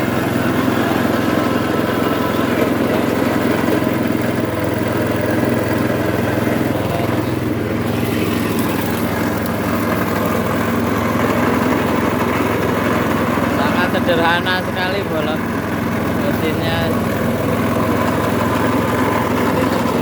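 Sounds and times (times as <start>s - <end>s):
juice press motor droning: 0.0s - 20.0s.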